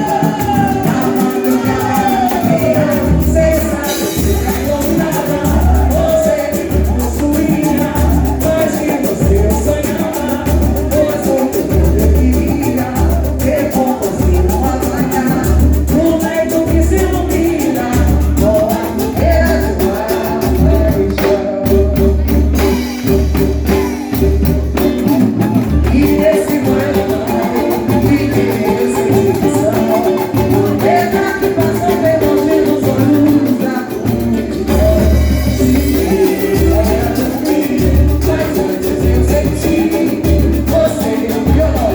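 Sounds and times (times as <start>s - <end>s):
deep drum beat: 0.0s - 41.9s
person singing: 0.0s - 41.9s
samba group playing: 0.0s - 41.9s.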